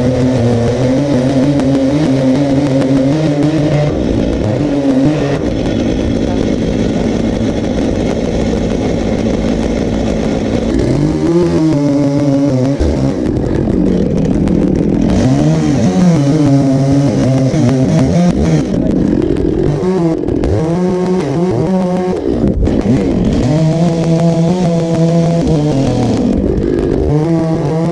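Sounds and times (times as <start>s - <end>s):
chainsaw cutting log: 0.0s - 27.9s.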